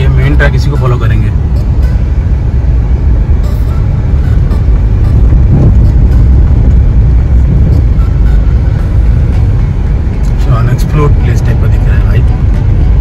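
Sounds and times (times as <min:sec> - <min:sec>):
car driving on dirt track: 0:00.0 - 0:13.0.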